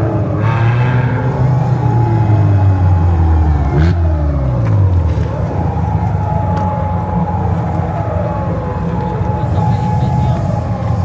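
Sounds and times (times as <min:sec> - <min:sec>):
car engines running: 0:00.0 - 0:11.0.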